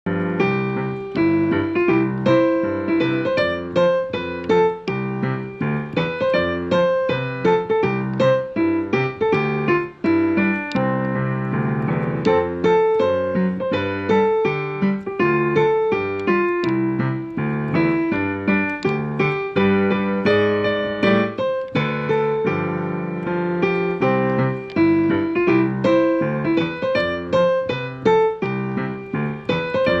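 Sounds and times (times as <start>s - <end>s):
quick piano melody: 0.0s - 30.0s.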